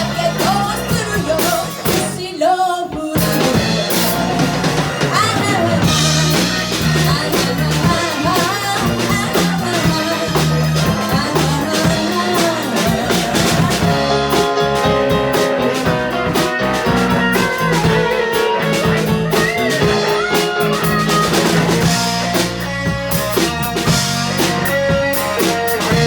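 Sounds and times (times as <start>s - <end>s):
walking bass line: 0.0s - 2.2s, 3.2s - 26.0s
drum kit with rimshots: 0.0s - 26.0s
lead guitar: 3.2s - 26.0s
sustained guitar chords: 3.5s - 26.0s.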